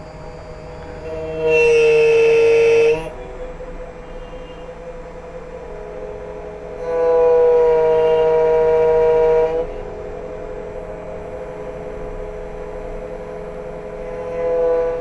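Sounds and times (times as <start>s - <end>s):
key cutting machine whine: 0.0s - 15.0s.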